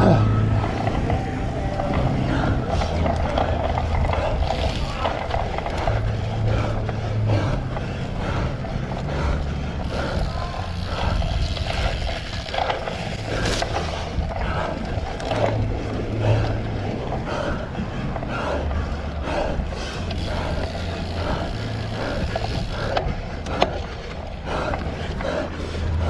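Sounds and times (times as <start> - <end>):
bike knocks and rattles: 0.0 - 17.5, 19.9 - 26.0
bike tyre noise: 0.0 - 26.0
wind rumbling on microphone: 0.0 - 26.0.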